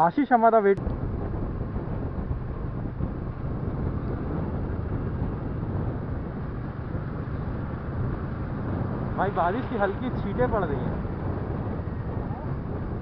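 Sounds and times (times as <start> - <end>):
wind and road noise: 0.0 - 13.0
motorcycle engine cruising: 0.8 - 13.0.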